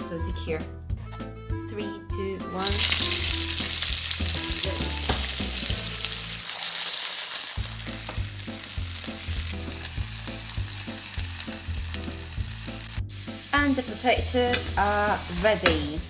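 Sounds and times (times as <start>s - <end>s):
potatoes sizzling in oil: 2.6s - 16.0s.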